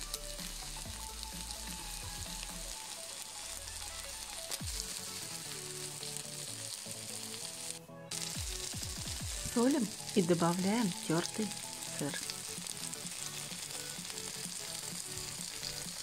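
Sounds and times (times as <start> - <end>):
egg frying in a pan: 0.0 - 16.0.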